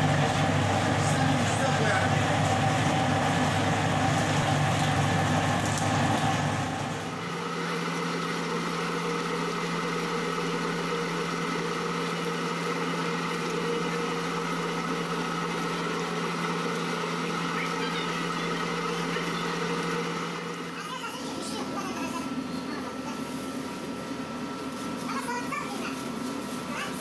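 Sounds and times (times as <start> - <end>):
dough mixer motor humming: 0.0 - 27.0.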